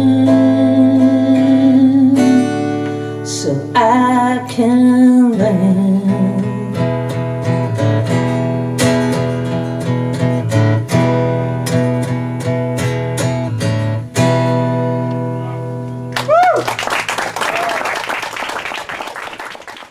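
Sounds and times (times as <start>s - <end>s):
acoustic guitar strumming chords: 0.0s - 16.2s.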